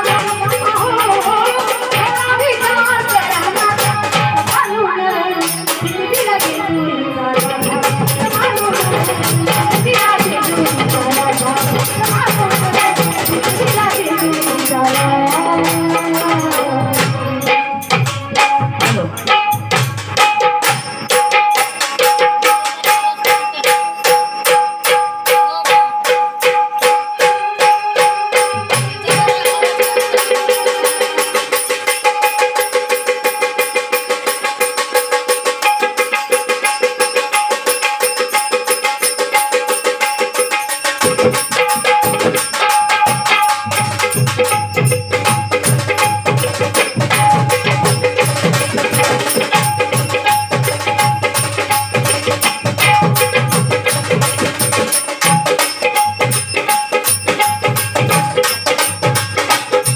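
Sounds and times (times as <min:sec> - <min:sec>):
banjo plucking fast melody: 0:00.0 - 0:37.9, 0:39.7 - 0:59.9
hand drum beat: 0:00.0 - 0:59.9
steady held tones: 0:00.0 - 0:59.9.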